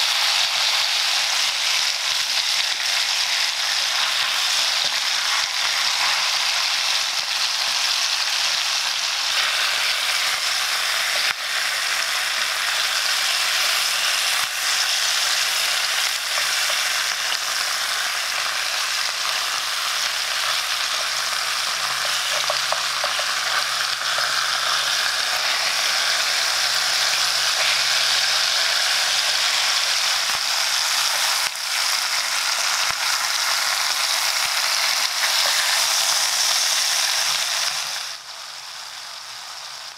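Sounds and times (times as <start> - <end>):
ribs sizzling in a pan: 0.0 - 39.9.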